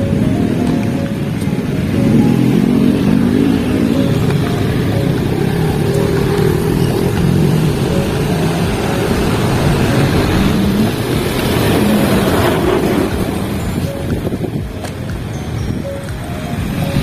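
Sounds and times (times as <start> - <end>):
cars passing: 0.0 - 17.0
motorcycles passing: 0.0 - 17.0
steady road traffic: 0.0 - 17.0.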